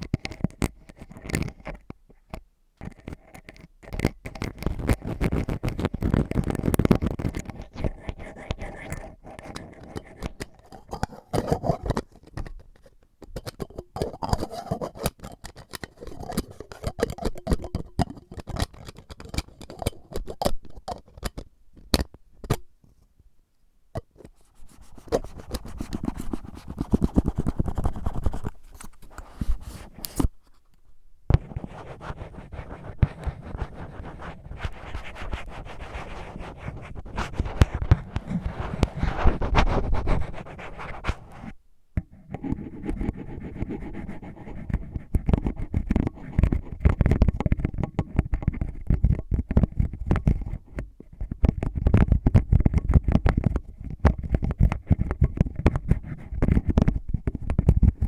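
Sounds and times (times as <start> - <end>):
scratching and tapping on objects: 0.0 - 23.1, 24.0 - 58.0.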